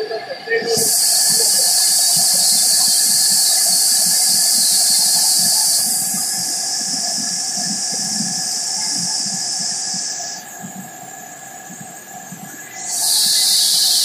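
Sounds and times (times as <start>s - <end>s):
steady whine: 0.0s - 14.0s
car wash high hiss: 0.6s - 14.0s.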